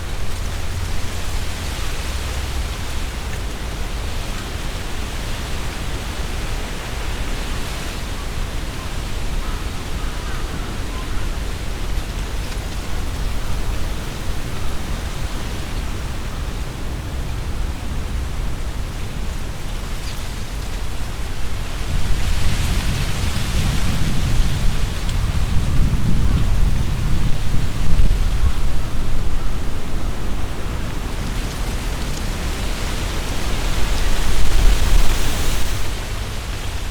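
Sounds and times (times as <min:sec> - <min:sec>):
leaves rustling in wind: 0:00.0 - 0:36.9
wind rumble on microphone: 0:00.0 - 0:36.9.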